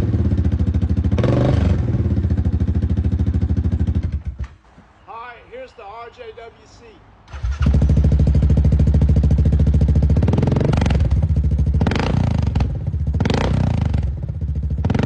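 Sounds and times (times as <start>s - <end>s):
atv engine idling and revving: 0.0s - 4.4s, 7.3s - 15.0s.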